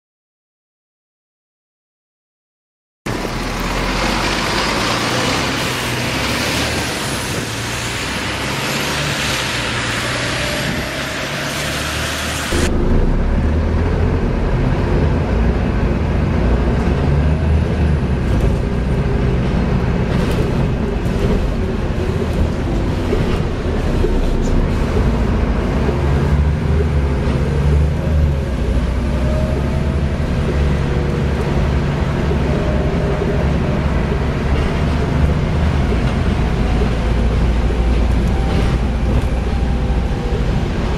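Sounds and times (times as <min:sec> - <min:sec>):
bus diesel engine running: 0:03.1 - 0:40.9.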